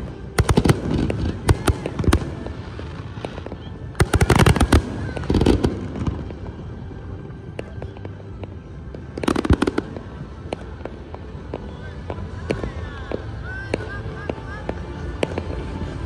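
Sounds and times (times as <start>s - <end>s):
firework pops and crackle: 0.0s - 6.5s, 7.5s - 14.0s.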